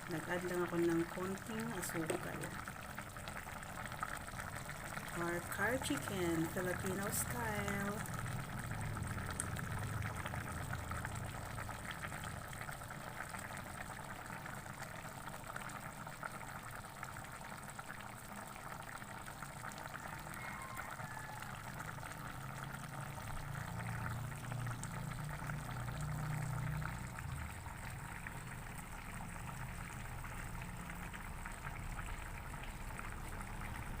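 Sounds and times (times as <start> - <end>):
curry bubbling in pot: 0.0 - 34.0.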